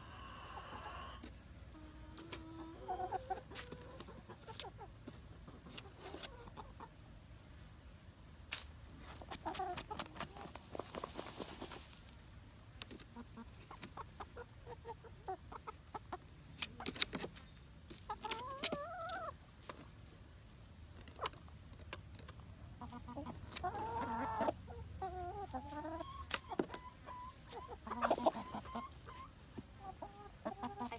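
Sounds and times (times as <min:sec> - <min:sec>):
hens clucking: 0:00.0 - 0:07.7, 0:08.9 - 0:30.9
hens scratching in sand: 0:00.0 - 0:30.9.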